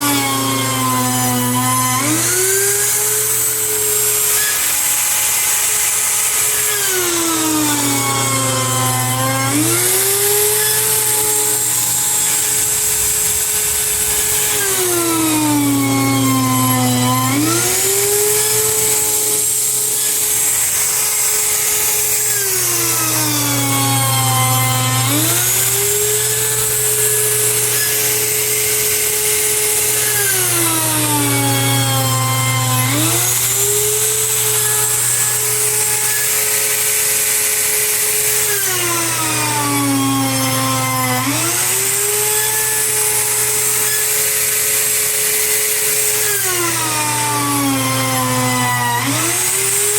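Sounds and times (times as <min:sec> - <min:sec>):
wood router whining: 0:00.0 - 0:49.9.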